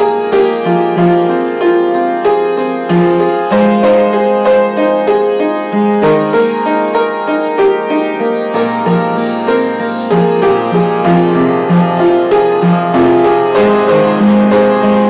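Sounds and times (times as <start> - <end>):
piano playing: 0.0 - 15.0.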